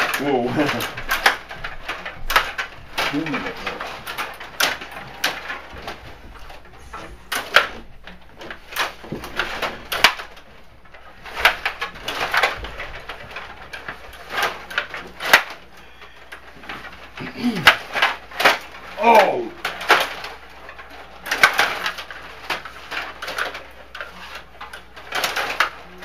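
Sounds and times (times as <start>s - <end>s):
figures and puck clacking: 0.0s - 26.0s
plastic rods sliding and twisting: 0.0s - 26.0s.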